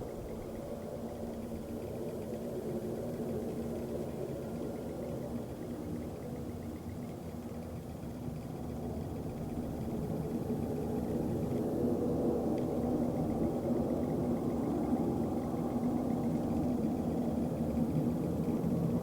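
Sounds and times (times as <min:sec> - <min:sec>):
low droning hum from the sky: 0:00.0 - 0:19.0.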